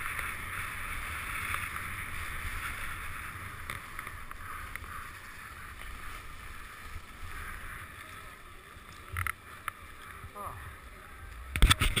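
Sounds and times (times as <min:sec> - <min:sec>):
skis scraping over snow: 0:00.0 - 0:12.0
wind rumbling on microphone: 0:00.0 - 0:12.0.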